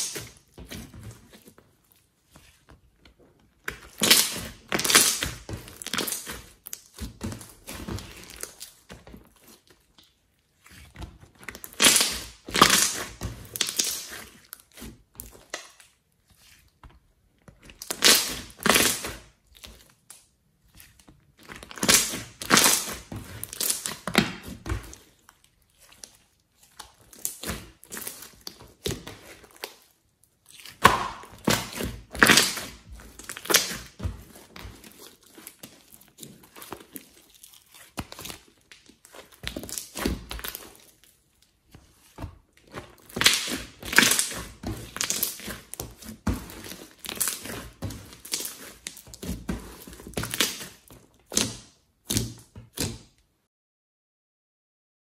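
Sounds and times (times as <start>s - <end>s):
slime crackling and popping: 0.0s - 1.1s, 3.6s - 16.2s, 17.5s - 53.2s.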